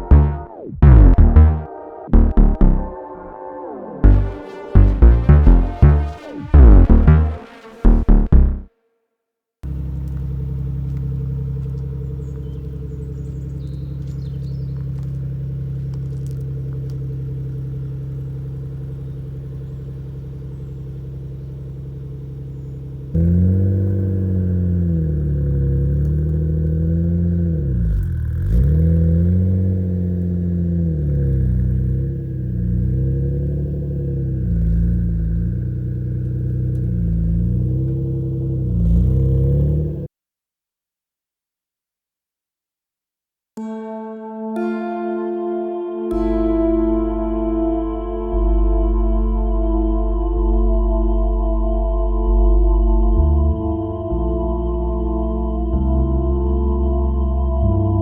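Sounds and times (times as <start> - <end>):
car engine idling and revving: 4.0 - 8.7, 9.6 - 40.1, 46.6 - 58.0.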